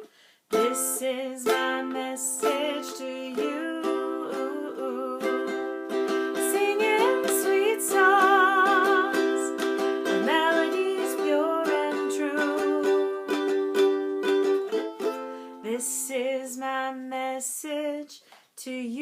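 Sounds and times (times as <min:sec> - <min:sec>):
ukulele strumming: 0:00.0 - 0:17.3.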